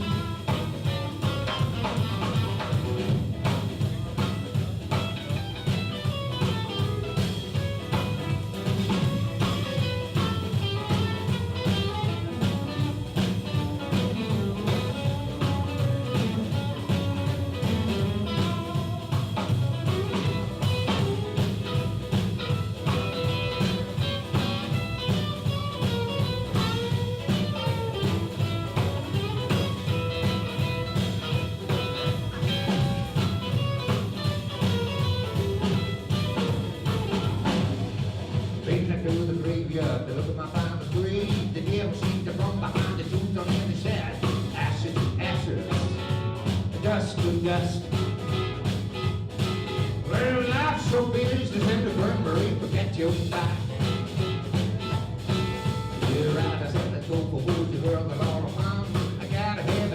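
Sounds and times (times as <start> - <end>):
guitar melody: 0.0 - 57.1
bass guitar: 0.0 - 59.9
drum kit beat: 0.0 - 59.9.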